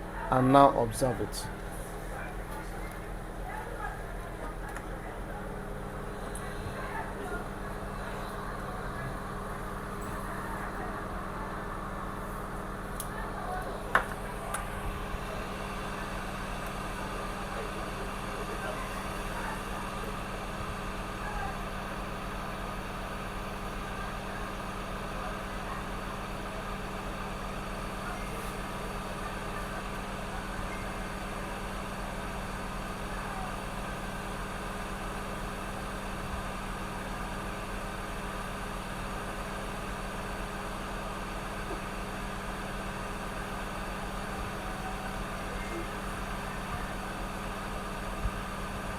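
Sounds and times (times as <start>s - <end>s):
electrical hum with fan whir: 0.0s - 48.9s.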